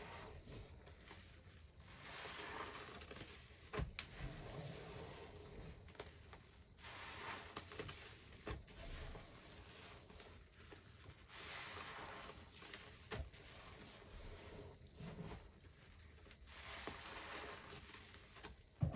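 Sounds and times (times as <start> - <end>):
sponge squelching in foamy paste: 0.0 - 18.9.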